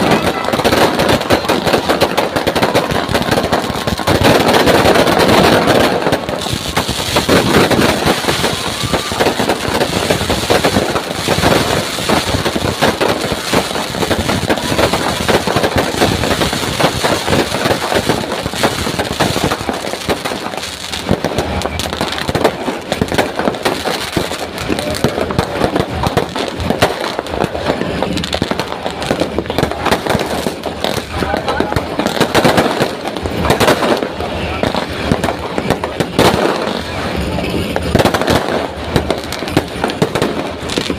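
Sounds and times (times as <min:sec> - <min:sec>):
fireworks cracking and banging: 0:00.0 - 0:40.9
people's voices: 0:00.0 - 0:40.9.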